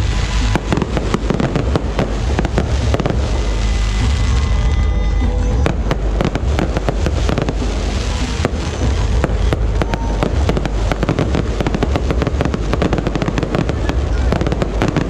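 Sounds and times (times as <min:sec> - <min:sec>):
continuous low rumble: 0:00.0 - 0:15.0
fireworks bangs and crackles: 0:00.0 - 0:15.0.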